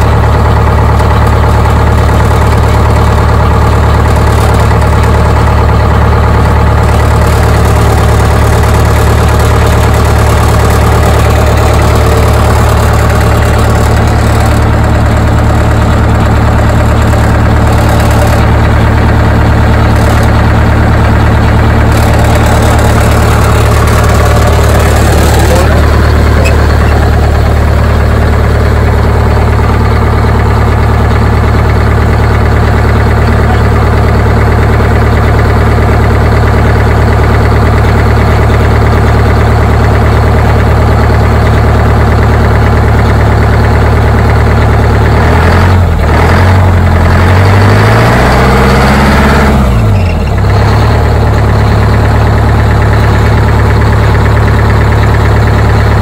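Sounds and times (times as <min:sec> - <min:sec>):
bus engine idling and revving: 0:00.0 - 0:56.0.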